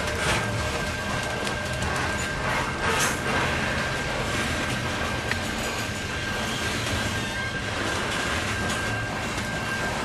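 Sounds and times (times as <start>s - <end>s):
freight train rumbling past: 0.0s - 10.0s.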